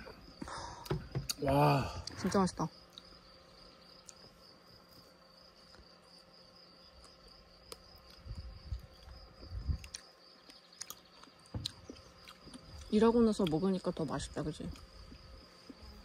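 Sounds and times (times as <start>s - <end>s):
crickets singing: 0.0s - 16.0s.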